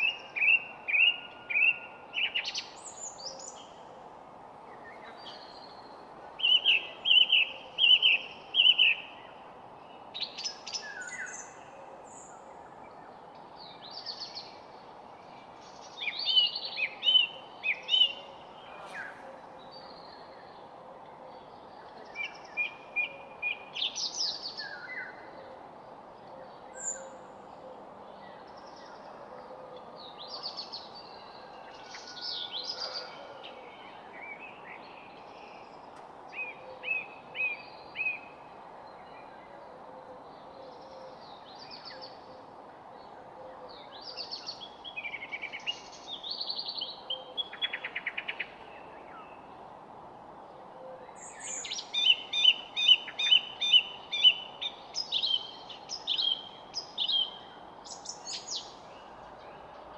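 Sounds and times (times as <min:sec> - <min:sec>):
songbirds singing and calling: 0:00.0 - 0:59.9
steady background hiss: 0:00.0 - 0:59.9.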